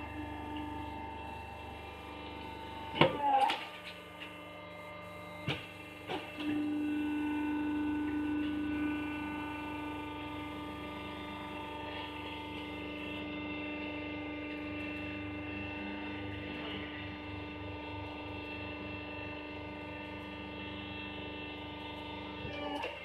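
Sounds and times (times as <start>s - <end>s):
machine motor humming and whining: 0.0s - 23.0s.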